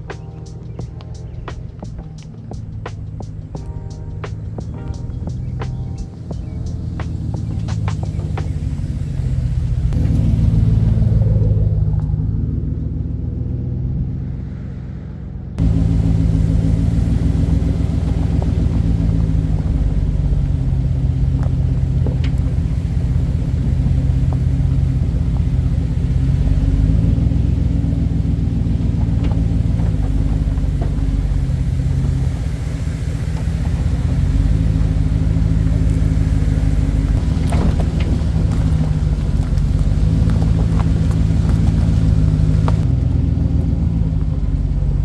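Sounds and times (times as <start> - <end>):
pickup truck engine running: 0.0 - 45.0.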